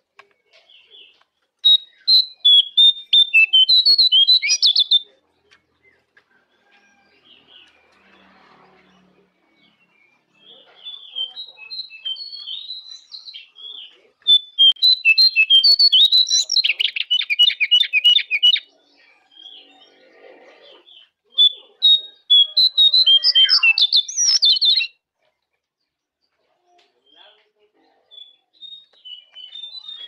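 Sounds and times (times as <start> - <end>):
songbird chirping and trilling: 0.0 - 30.0.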